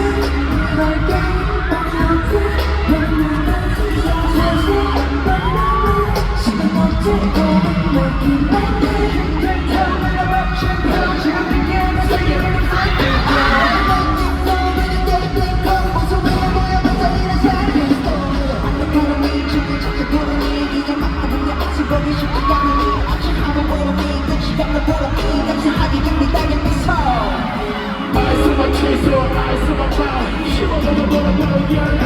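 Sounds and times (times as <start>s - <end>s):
backing track with heavy bass beat: 0.0s - 32.0s
person singing: 0.0s - 32.0s.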